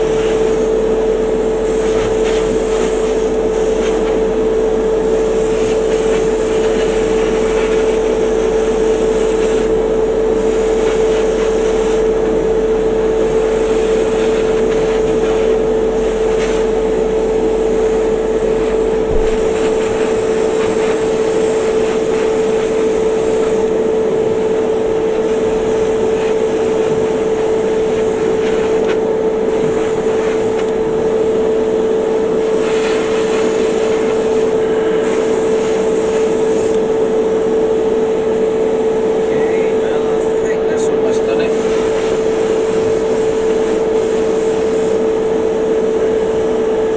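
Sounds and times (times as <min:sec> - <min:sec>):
airbrush air hiss: 0:00.0 - 0:46.9.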